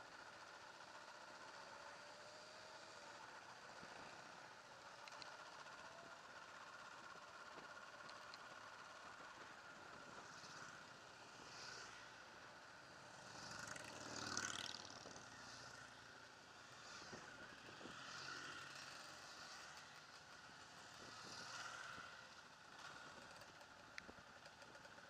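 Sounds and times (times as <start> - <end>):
motorcycle engines: 0.0 - 25.0.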